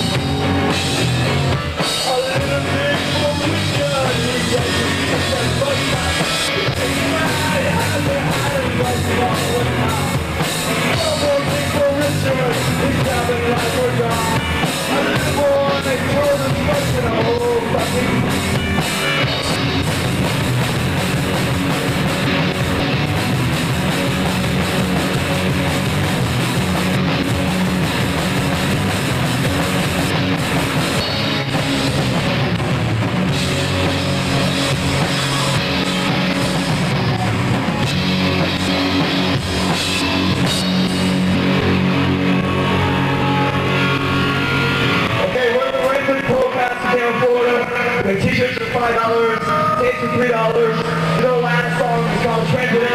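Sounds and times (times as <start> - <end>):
drum kit beat: 0.0 - 52.9
rock band playing live: 0.0 - 52.9.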